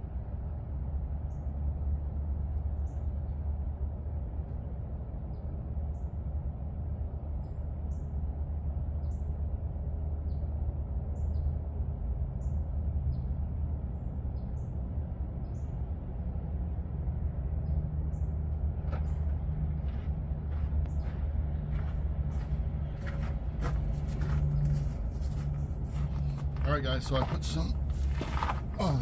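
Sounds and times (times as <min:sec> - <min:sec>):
steady low drone: 0:00.0 - 0:29.0.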